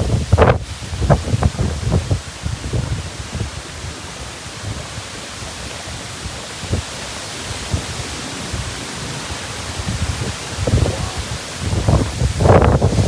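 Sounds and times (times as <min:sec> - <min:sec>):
strong wind rushing: 0:00.0 - 0:13.0
wind buffeting the microphone: 0:00.0 - 0:13.0.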